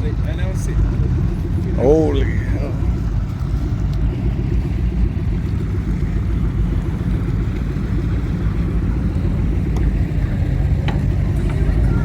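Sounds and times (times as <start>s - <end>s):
powerboat engines idling: 0.0s - 12.0s.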